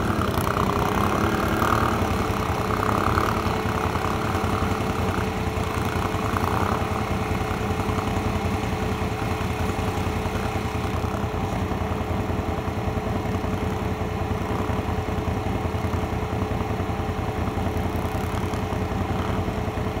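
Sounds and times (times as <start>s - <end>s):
atv engine running steadily: 0.0s - 20.0s.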